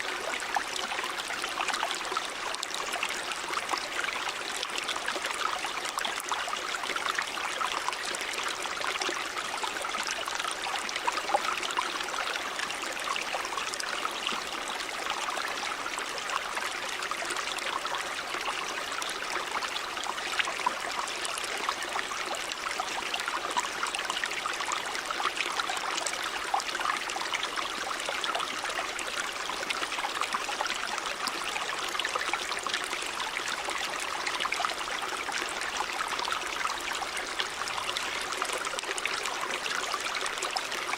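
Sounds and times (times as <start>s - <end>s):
stream water running over rocks: 0.0s - 40.9s.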